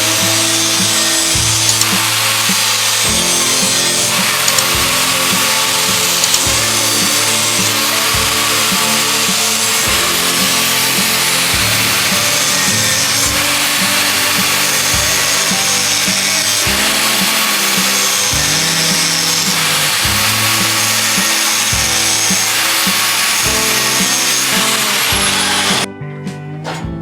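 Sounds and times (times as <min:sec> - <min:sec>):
power tool hissing on metal: 0:00.0 - 0:25.9
background music with steady beat: 0:00.0 - 0:27.0.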